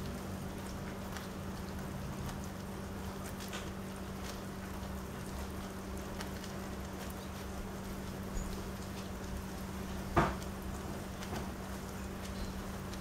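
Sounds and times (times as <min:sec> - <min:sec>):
rain on a wooden deck: 0:00.0 - 0:13.0.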